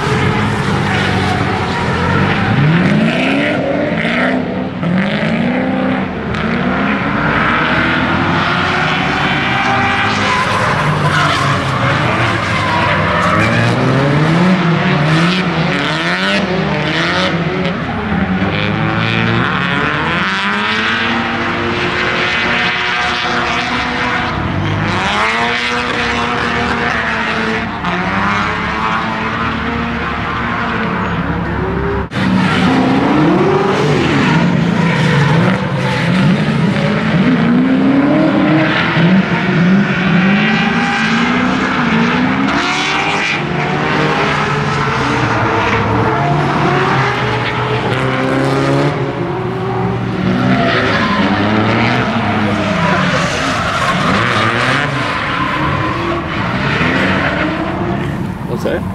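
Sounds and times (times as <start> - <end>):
car engines revving: 0.0 - 58.9.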